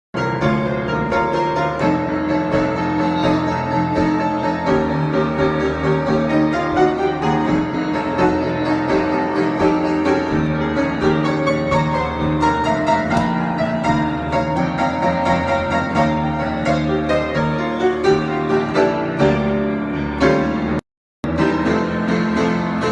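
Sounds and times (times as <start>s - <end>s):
solo piano improvisation: 0.2s - 22.9s.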